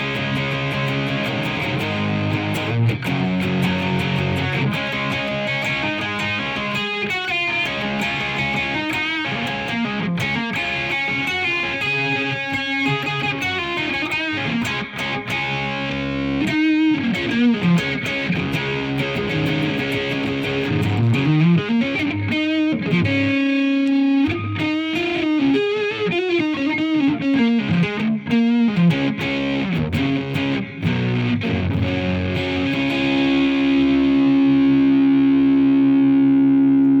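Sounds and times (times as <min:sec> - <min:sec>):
distorted electric guitar: 0:00.0 - 0:37.0.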